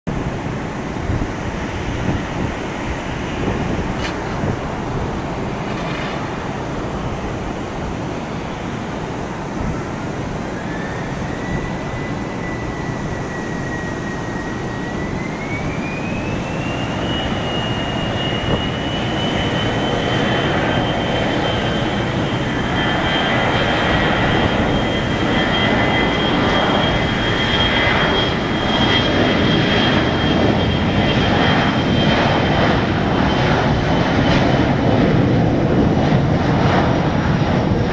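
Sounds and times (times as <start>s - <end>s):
jet engine whine: 0.1s - 37.9s
jet noise: 0.1s - 37.9s.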